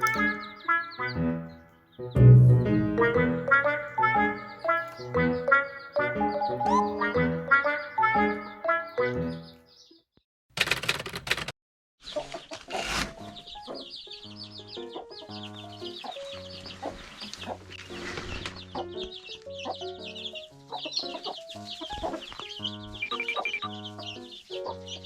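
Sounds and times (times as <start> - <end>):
chicks peeping: 0.0 - 2.3, 3.0 - 10.0, 12.1 - 25.0
background music: 0.0 - 9.8, 12.3 - 25.0.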